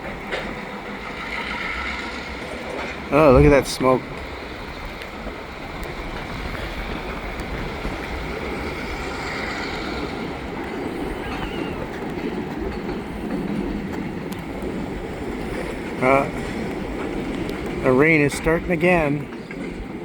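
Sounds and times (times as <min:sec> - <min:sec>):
diesel locomotives running under load: 0:00.0 - 0:20.0.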